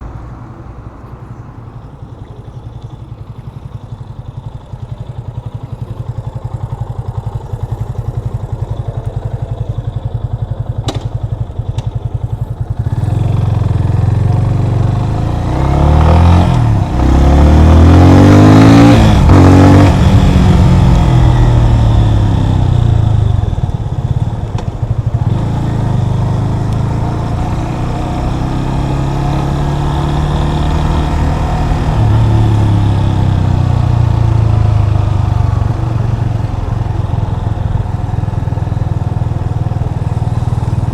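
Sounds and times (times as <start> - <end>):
motorcycle engine idling: 0.8 - 15.2, 19.9 - 40.9
motorcycle revving through gears: 3.9 - 40.9.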